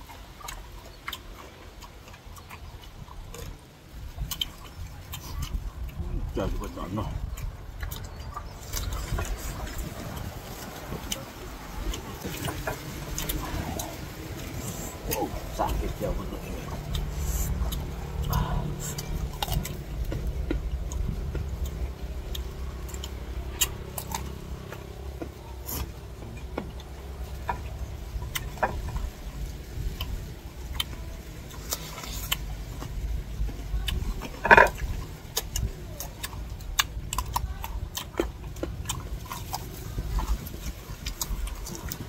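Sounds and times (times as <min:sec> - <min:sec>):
crunching and chewing mango: 0:00.0 - 0:42.0
low steady rumble: 0:00.0 - 0:42.0.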